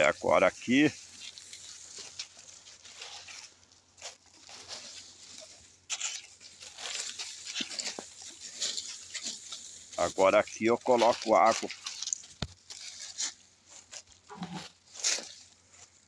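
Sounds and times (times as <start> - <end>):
rustling in dry leaves: 0.0 - 16.0.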